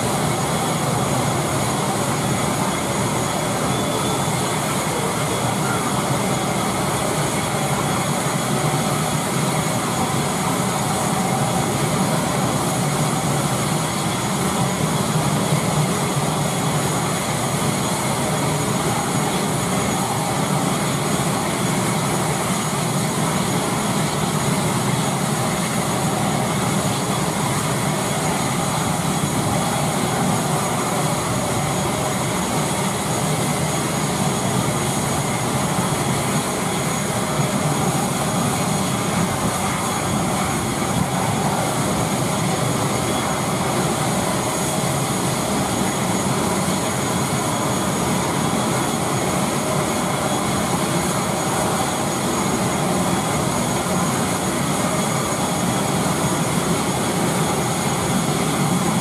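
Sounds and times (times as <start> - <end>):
turboprop engine idling with whine: 0.0 - 59.0.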